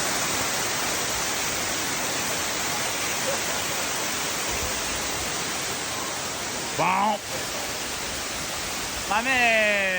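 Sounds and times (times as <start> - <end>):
waterfall roaring: 0.0 - 9.9.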